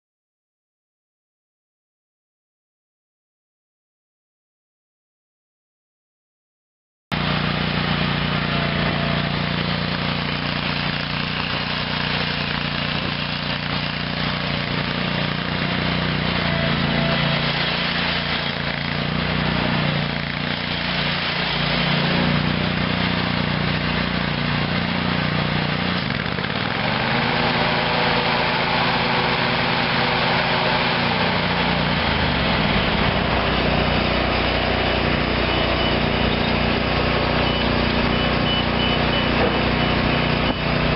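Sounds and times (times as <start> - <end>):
mower engine running: 7.1 - 40.9.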